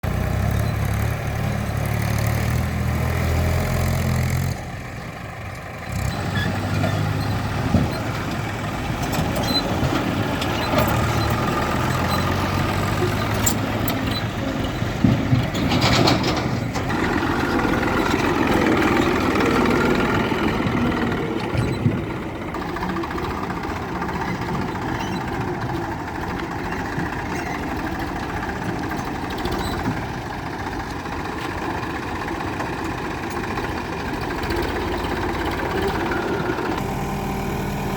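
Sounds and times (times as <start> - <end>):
diesel engines running and idling: 0.0 - 37.9.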